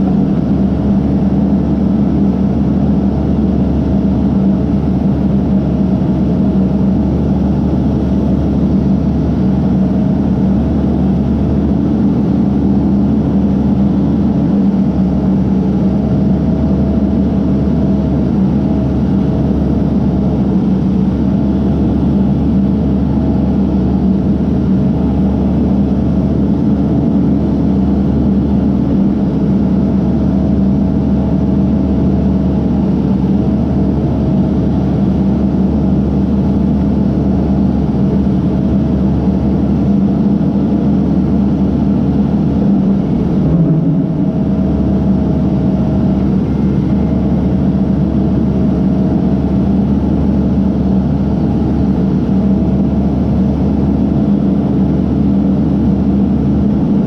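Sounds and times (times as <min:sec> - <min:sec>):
diesel engine droning: 0:00.0 - 0:57.0
faint steady whine: 0:00.0 - 0:57.0.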